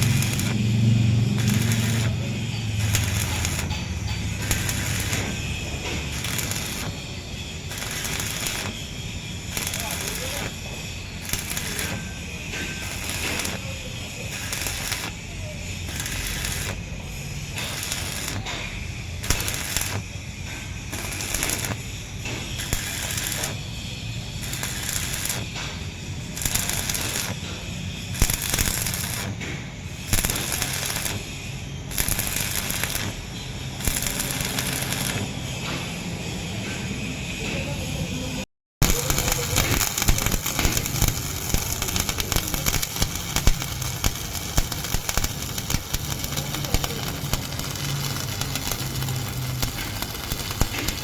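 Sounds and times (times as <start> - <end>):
welding arc crackling: 0.0 - 51.0.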